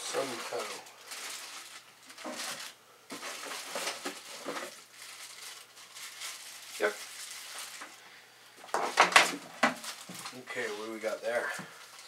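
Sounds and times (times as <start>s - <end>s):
plastic bags crinkling: 0.0s - 8.0s, 8.6s - 12.0s.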